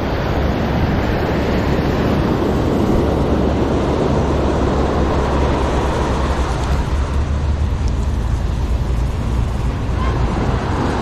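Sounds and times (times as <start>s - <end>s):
waves washing up beach: 0.0s - 11.0s
wind rumble on microphone: 0.0s - 11.0s.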